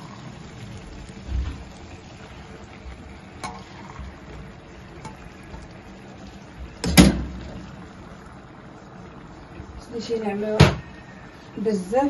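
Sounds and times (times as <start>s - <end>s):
liquid pouring into pan: 0.0s - 9.8s.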